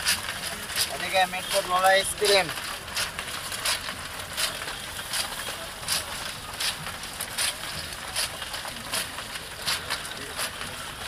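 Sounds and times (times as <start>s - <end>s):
ice cream drum scraping hiss: 0.0s - 11.0s.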